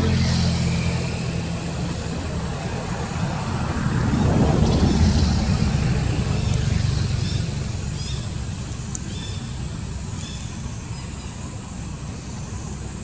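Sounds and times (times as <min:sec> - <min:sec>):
motor vehicle passing rumble: 0:00.0 - 0:13.0.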